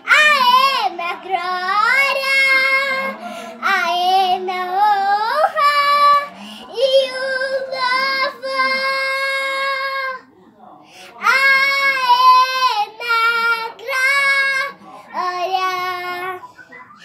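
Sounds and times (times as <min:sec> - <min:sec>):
young girl singing: 0:00.0 - 0:10.2, 0:11.2 - 0:16.4.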